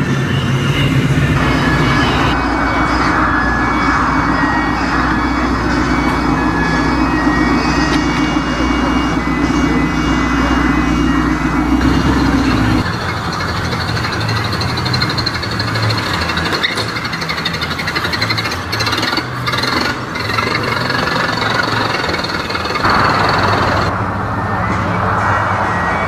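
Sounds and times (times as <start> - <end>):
car engine idling: 0.0 - 24.7.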